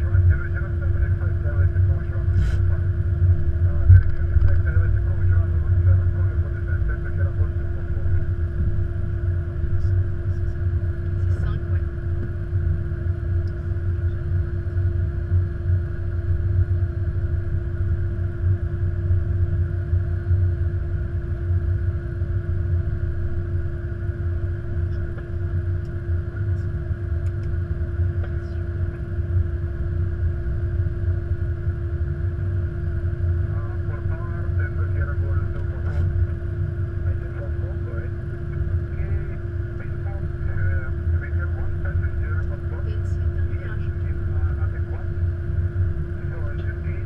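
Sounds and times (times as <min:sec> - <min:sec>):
aircraft cabin rumble: 0:00.0 - 0:47.0
constant hum: 0:00.0 - 0:47.0.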